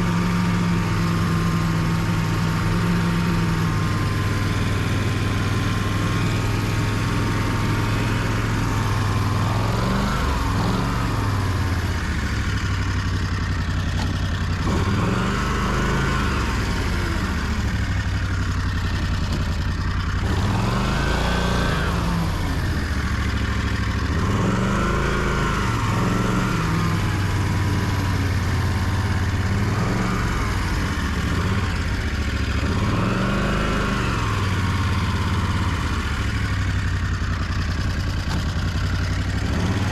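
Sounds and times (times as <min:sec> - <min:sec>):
snowmobile engine revving: 0:00.0 - 0:13.0, 0:14.5 - 0:19.3, 0:19.9 - 0:23.4, 0:24.0 - 0:36.7, 0:39.2 - 0:39.9.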